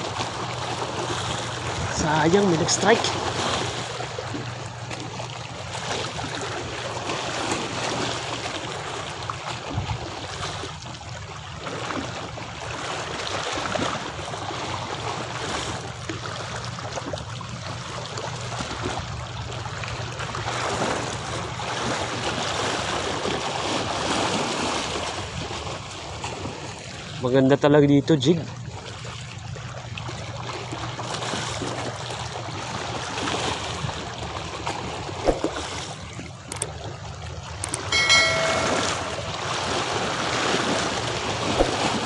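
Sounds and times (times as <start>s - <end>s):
waves lapping against shore: 0.0s - 42.0s.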